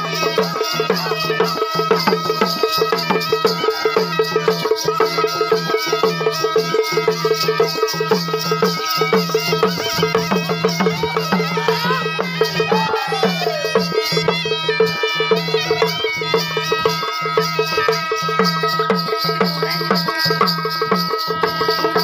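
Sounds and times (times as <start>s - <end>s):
hand drums beating: 0.0s - 22.0s
pipe melody: 0.0s - 22.0s.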